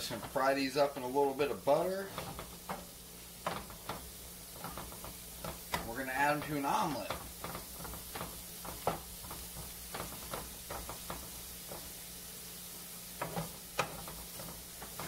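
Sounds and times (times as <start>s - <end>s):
faint sizzle: 0.0s - 15.0s
wooden spatula scraping frying pan: 0.0s - 15.0s.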